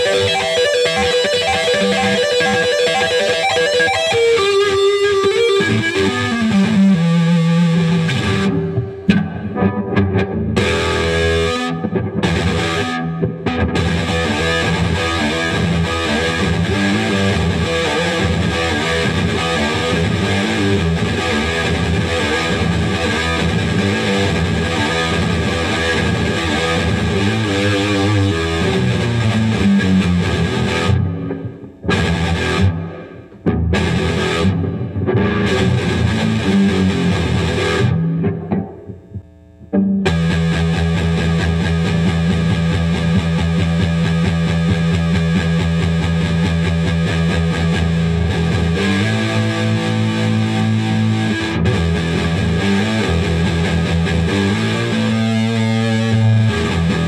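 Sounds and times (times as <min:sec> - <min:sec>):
distorted electric guitar riffing: 0:00.0 - 0:57.0.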